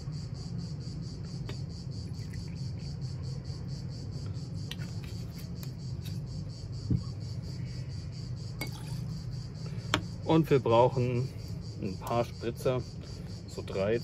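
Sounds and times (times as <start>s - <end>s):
insects chirring: 0.0s - 14.0s
low steady hum: 0.0s - 14.0s.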